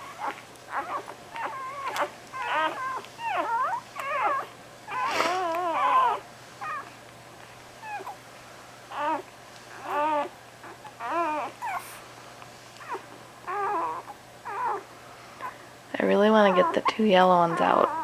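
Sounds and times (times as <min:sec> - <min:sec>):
newborn puppies crying: 0:00.0 - 0:07.0, 0:07.8 - 0:08.3, 0:08.9 - 0:12.1, 0:12.8 - 0:18.0.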